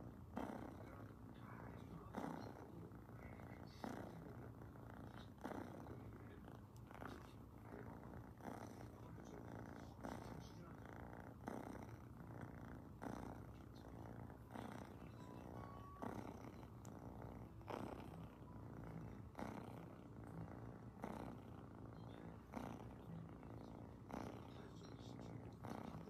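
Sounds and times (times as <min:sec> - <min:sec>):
kitten purring: 0:00.0 - 0:26.0.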